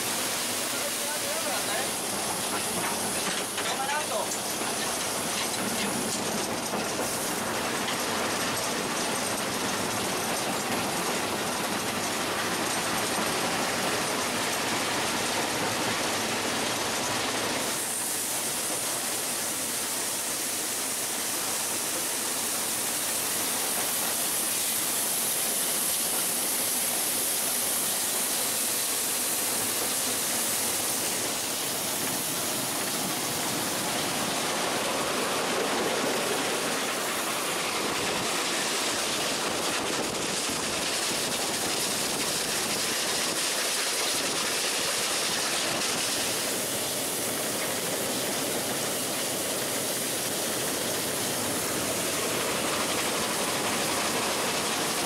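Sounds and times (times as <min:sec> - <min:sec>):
steam hissing: 0:00.0 - 0:55.0
train running gear and rails: 0:00.0 - 0:55.0.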